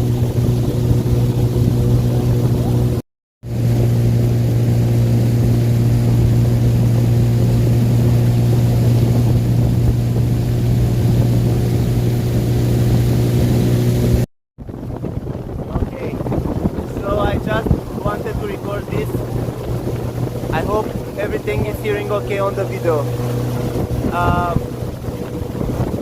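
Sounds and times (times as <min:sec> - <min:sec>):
motorboat engine droning: 0:00.0 - 0:26.0.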